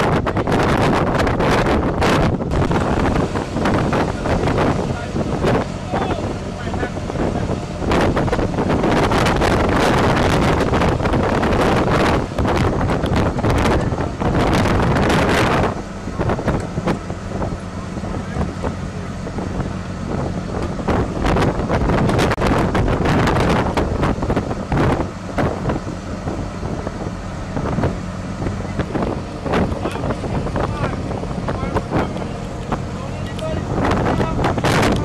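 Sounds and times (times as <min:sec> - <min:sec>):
low machinery hum: 0:00.0 - 0:35.0
wind buffeting microphone: 0:00.0 - 0:35.0.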